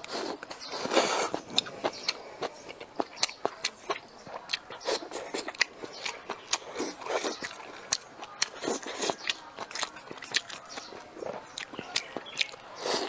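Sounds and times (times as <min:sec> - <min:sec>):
biting and chewing food: 0:00.0 - 0:13.0.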